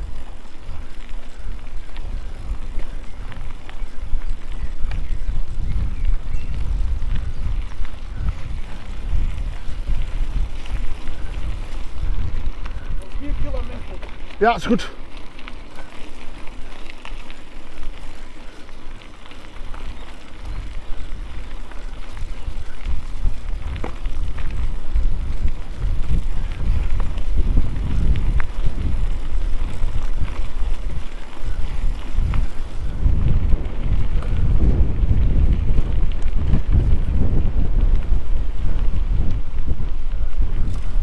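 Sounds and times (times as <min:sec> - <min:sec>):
mountain bike rattle and rumble: 0:00.0 - 0:41.0
wind buffeting microphone: 0:00.0 - 0:41.0.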